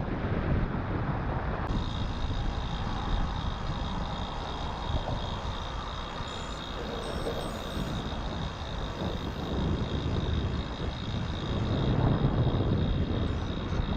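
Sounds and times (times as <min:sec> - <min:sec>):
wind on microphone: 0:00.0 - 0:13.9
faint high whine: 0:01.7 - 0:13.9.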